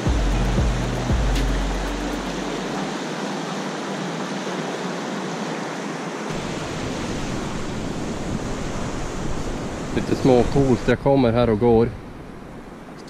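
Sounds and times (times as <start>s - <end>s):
water rushing over rocks: 0.0s - 11.8s.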